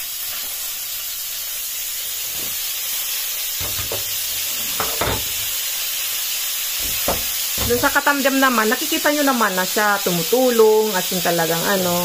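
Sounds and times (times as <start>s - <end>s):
peppers sizzling in hot oil: 0.0s - 12.0s.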